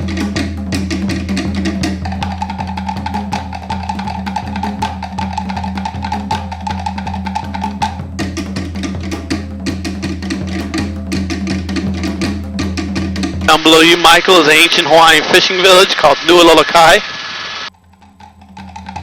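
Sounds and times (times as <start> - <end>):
music with drums and percussion: 0.0 - 15.2, 17.7 - 19.0.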